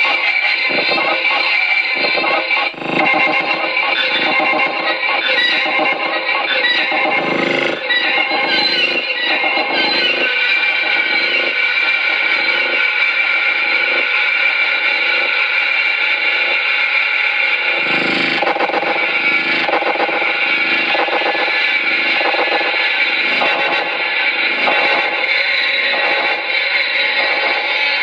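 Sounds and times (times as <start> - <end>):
distorted electric guitar drone: 0.0 - 28.0.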